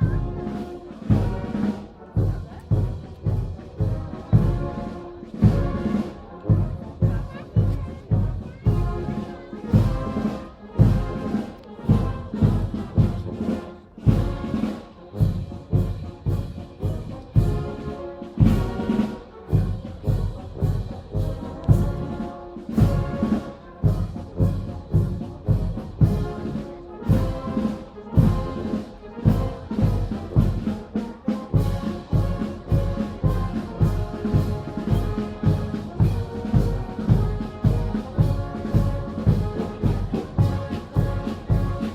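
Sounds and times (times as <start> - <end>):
brass marching band: 0.0 - 41.9
steady drum beat: 0.0 - 41.9.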